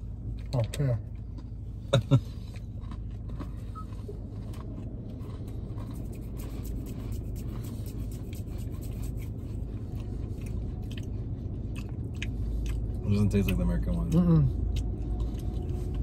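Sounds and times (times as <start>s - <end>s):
low car cabin hum: 0.0s - 16.0s
people chewing crunchy cookies: 0.1s - 16.0s.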